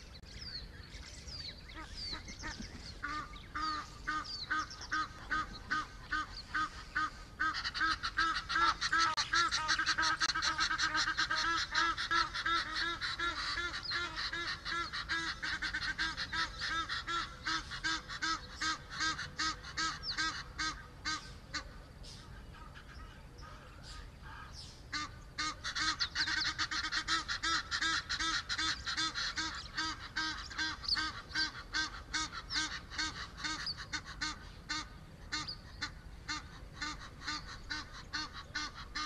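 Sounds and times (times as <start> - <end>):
birds honking harshly: 1.4 - 39.0.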